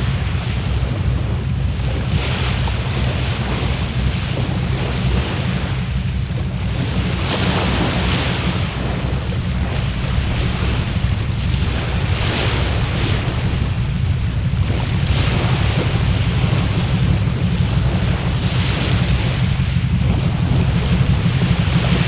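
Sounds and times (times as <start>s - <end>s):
high-pitched whine: 0.0s - 22.0s
wind rumble on microphone: 0.0s - 22.0s.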